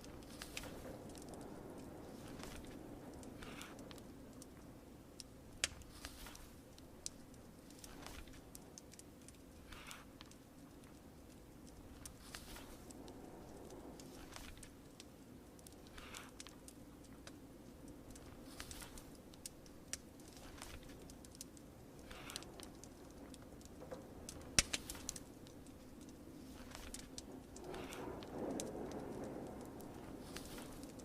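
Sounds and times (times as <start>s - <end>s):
rain: 0.0s - 31.0s
wood fire crackling and popping: 0.0s - 31.0s.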